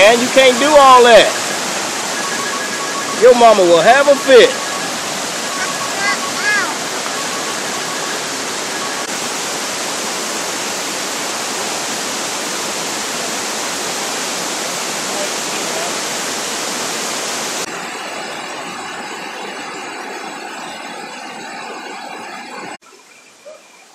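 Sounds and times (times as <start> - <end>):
waterfall roaring: 0.0 - 23.9.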